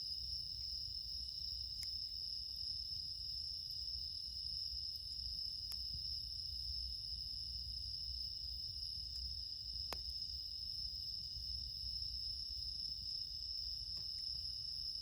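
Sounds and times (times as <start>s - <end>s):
crickets trilling: 0.0s - 15.0s
faint wood fire crackles: 0.5s - 15.0s.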